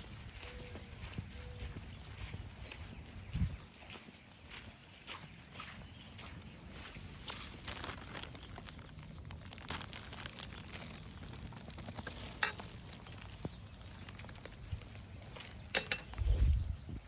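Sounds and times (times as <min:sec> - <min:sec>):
footsteps crunching on trail: 0:00.0 - 0:17.0.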